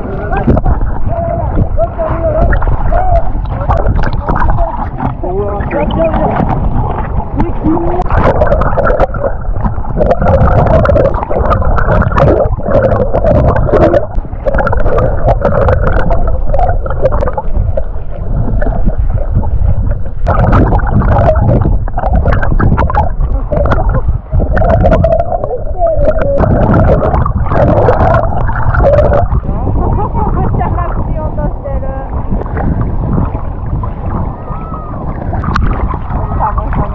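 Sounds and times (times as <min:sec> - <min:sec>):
muffled underwater churning: 0:00.0 - 0:36.9
water sloshing and gurgling: 0:00.0 - 0:36.9.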